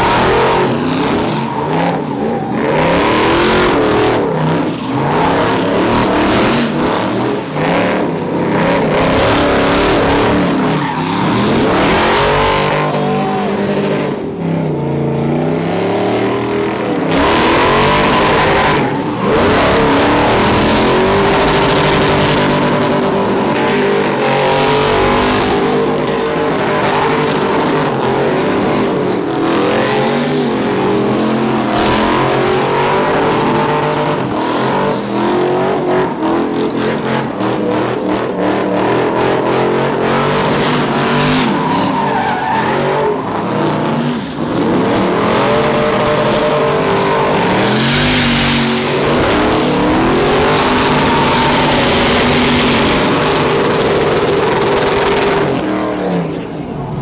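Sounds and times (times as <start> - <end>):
car engines revving hard: 0.0 - 57.0.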